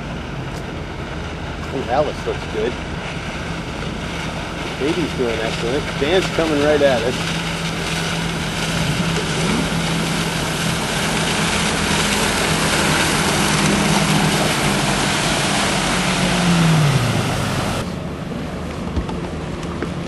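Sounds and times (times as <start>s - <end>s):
motorboat engine humming: 0.0s - 20.0s
rushing wind and water spray: 0.0s - 20.0s.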